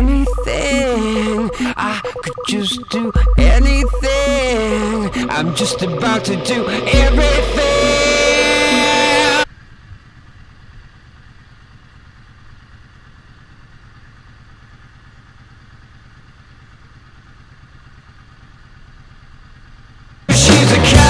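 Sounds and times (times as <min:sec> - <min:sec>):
motorcycle engine idling: 0:00.0 - 0:20.3.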